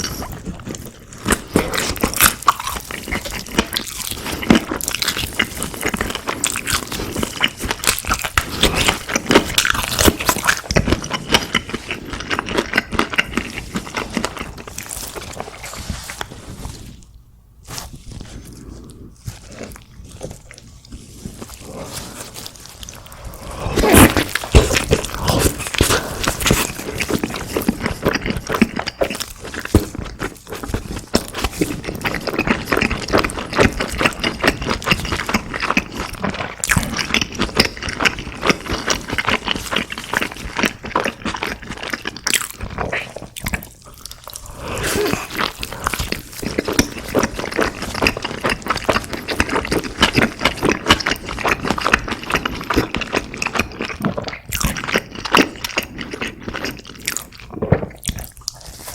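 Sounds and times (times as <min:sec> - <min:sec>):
crunchy wet chewing: 0:00.0 - 0:17.0, 0:17.6 - 0:58.9.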